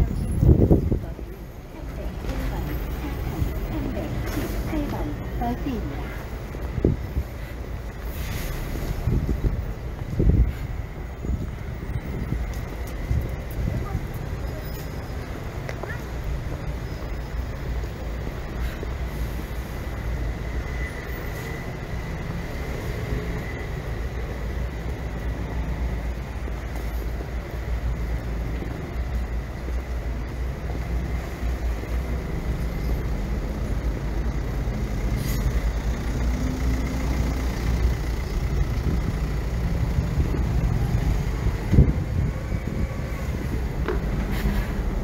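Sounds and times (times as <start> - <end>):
passing traffic rumble: 0.0 - 45.0.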